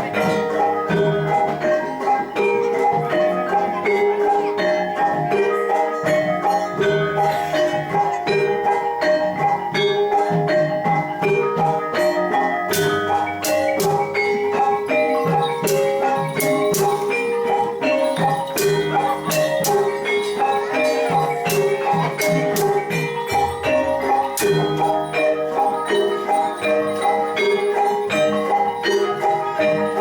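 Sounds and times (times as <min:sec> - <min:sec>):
gamelan ensemble playing: 0:00.0 - 0:30.0
metal mallet instruments ringing: 0:00.0 - 0:30.0.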